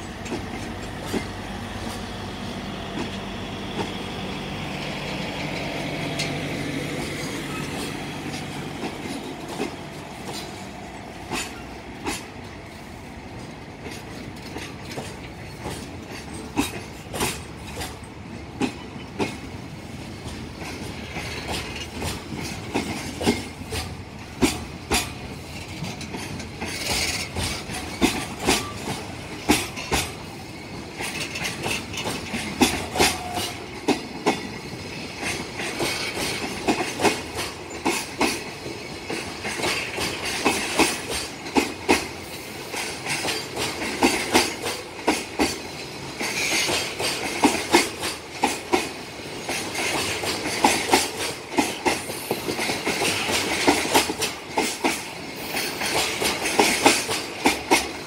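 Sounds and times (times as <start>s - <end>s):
train wheels clacking over rail joints: 0.0s - 58.0s.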